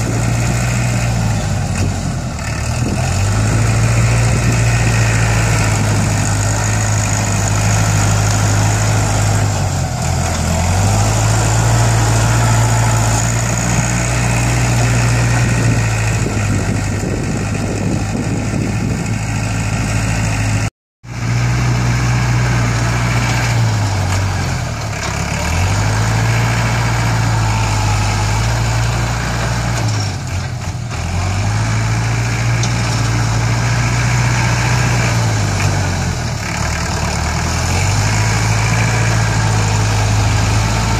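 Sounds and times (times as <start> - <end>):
tractor diesel engine working: 0.0 - 40.9.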